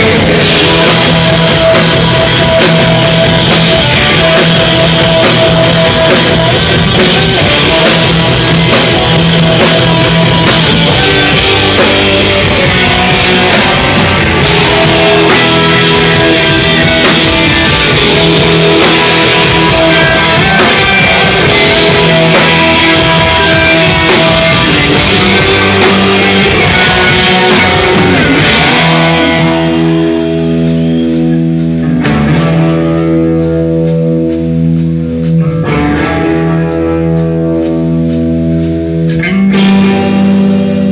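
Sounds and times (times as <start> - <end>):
distorted electric guitars: 0.0 - 40.9
drum kit: 0.0 - 40.9
electric bass: 0.0 - 40.9.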